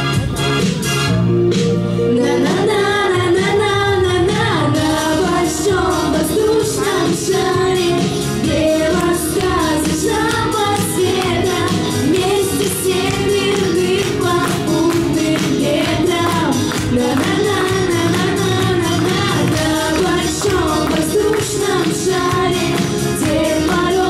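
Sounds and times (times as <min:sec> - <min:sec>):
backing music with steady beat: 0:00.0 - 0:24.0
women singing pop song: 0:02.0 - 0:24.0.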